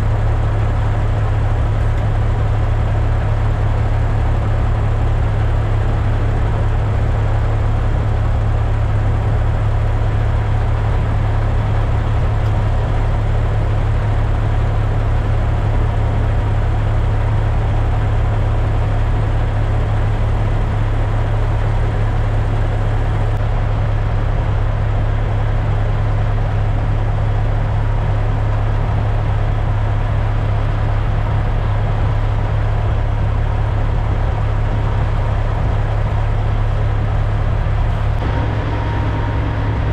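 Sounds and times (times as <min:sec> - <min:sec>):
diesel truck engine drone: 0:00.0 - 0:39.9
road and cab noise: 0:00.0 - 0:39.9.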